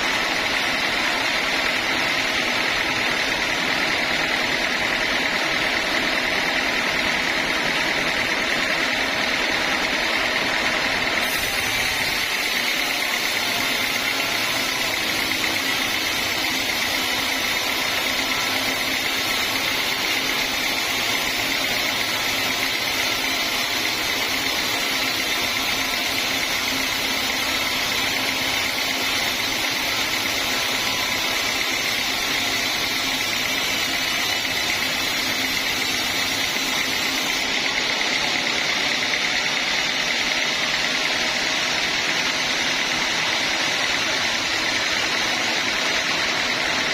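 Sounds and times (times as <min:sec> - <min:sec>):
band sawmill whine: 0:00.0 - 0:46.9.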